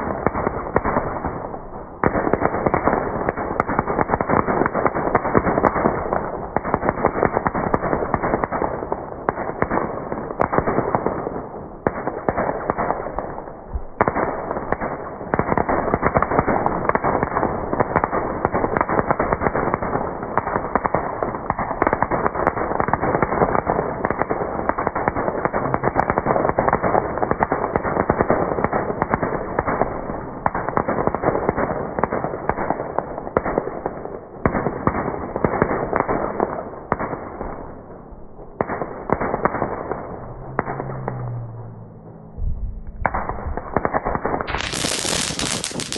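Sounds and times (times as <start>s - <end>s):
ground firework crackling: 0.0s - 45.9s.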